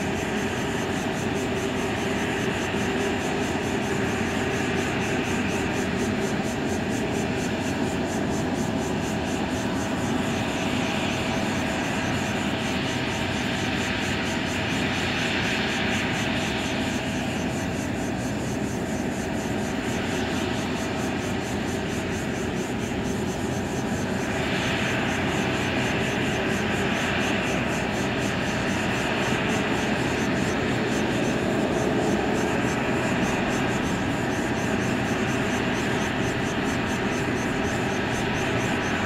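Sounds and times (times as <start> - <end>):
jet turbine rush and whine: 0.0 - 39.0.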